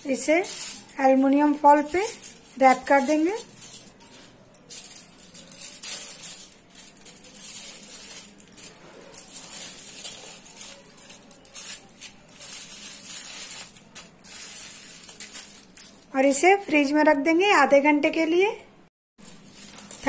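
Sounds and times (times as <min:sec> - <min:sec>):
aluminium foil crinkling: 0:00.0 - 0:16.0, 0:19.2 - 0:20.0.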